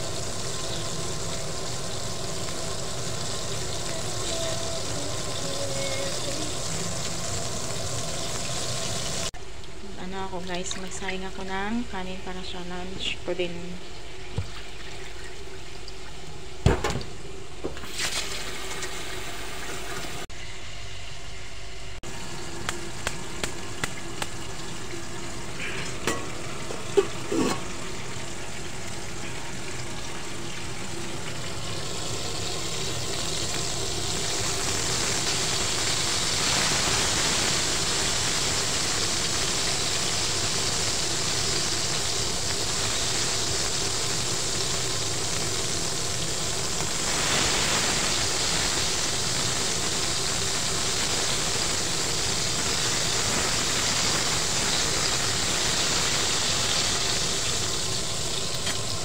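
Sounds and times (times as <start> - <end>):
chicken frying in hot oil: 0.0 - 20.3, 22.0 - 59.0.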